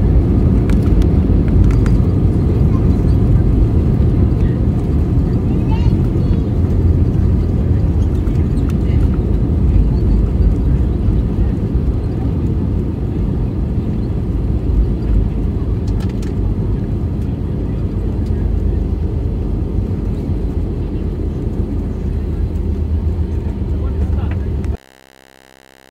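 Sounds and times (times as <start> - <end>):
engines and wheels rumbling: 0.0 - 24.8.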